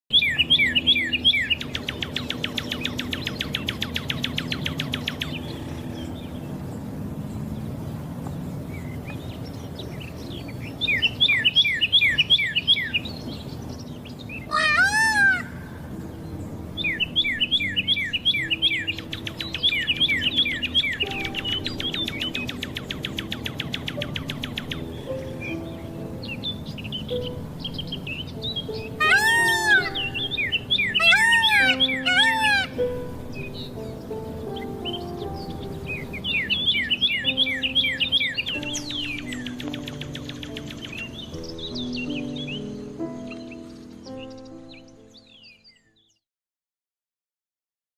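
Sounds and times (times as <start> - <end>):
birds chirping: 0.1 - 46.2.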